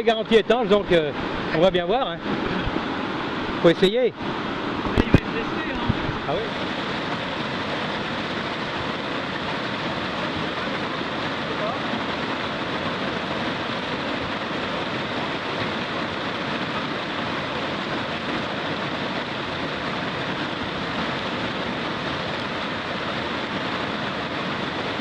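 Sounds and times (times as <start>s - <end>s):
river rapids rushing: 0.0s - 25.0s.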